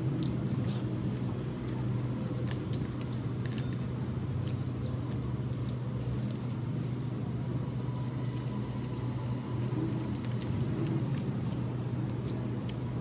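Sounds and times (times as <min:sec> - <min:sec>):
wet chewing and mouth clicks: 0:00.0 - 0:06.9, 0:07.8 - 0:13.0
steady low hum: 0:00.0 - 0:13.0.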